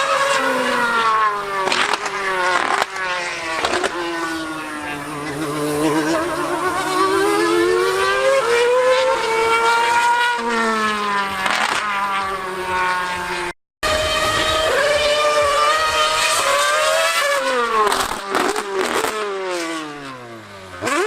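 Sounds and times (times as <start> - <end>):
racing engine revving: 0.0 - 21.0.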